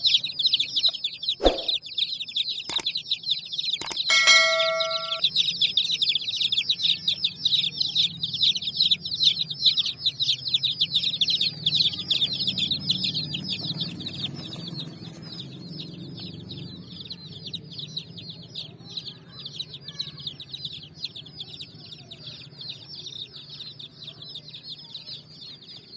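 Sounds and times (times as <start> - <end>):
baby chicks peeping: 0.0 - 25.9.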